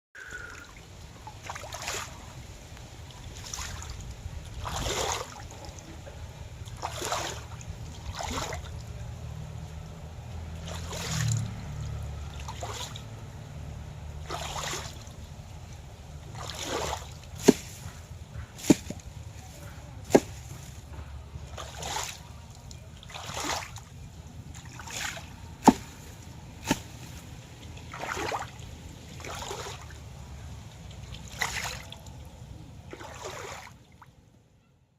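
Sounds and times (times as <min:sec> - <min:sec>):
steady low hum: 0:00.2 - 0:33.0
water sloshing and splashing: 0:00.2 - 0:34.2.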